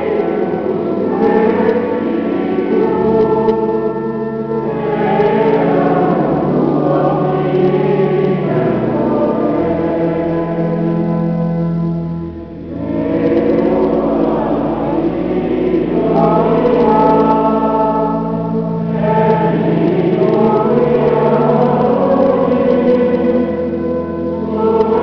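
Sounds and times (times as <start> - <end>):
choir singing a slow hymn: 0.0 - 25.0
long held low notes: 0.0 - 25.0.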